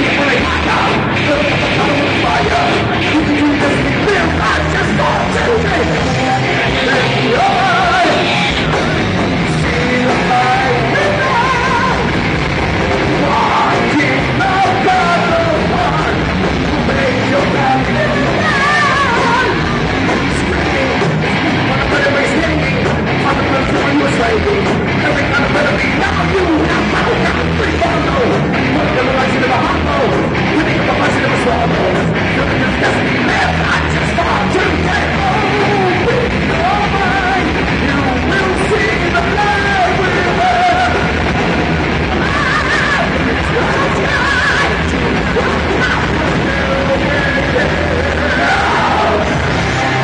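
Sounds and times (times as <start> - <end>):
drums: 0.0 - 50.0
electric guitar: 0.0 - 50.0
person singing and yelling: 0.0 - 50.0.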